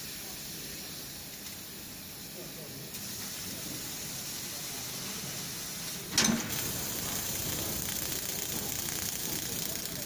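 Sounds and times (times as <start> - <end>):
laser cutter hiss: 0.0 - 10.0.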